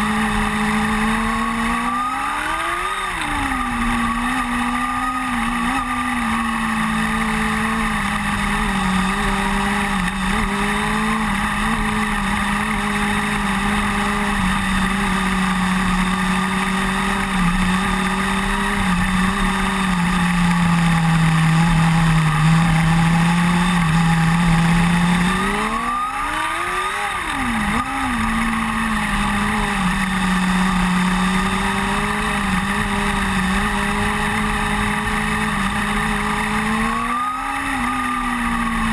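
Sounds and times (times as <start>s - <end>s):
race car engine running: 0.0s - 38.9s.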